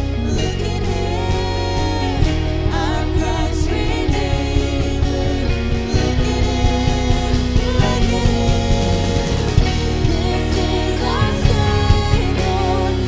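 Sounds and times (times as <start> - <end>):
live worship band playing: 0.0 - 13.0
women singing: 0.0 - 13.0.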